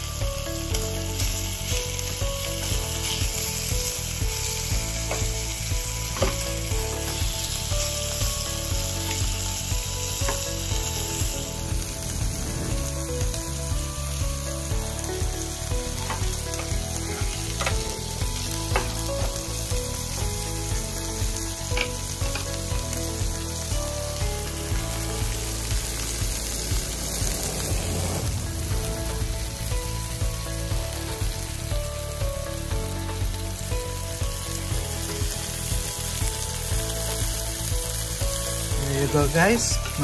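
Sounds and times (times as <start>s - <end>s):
meat and onions sizzling: 0.0s - 40.0s.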